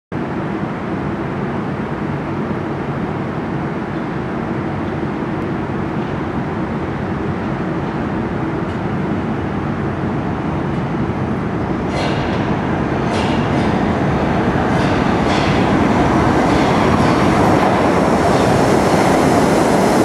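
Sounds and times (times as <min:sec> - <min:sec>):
subway train rumbling: 0:00.1 - 0:20.0.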